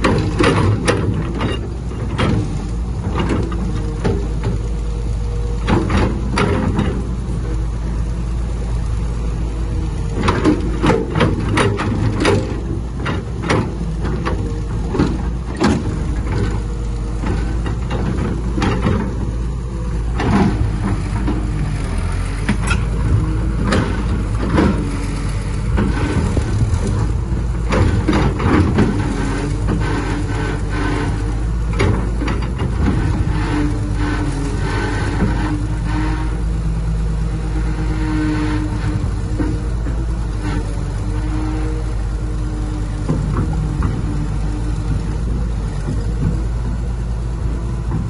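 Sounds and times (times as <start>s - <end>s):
diesel machinery running: 0.0s - 48.0s.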